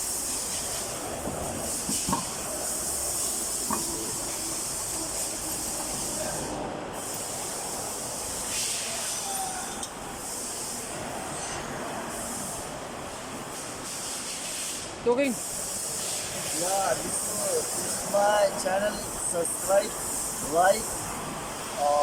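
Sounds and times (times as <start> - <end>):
steady hissing: 0.0 - 22.0.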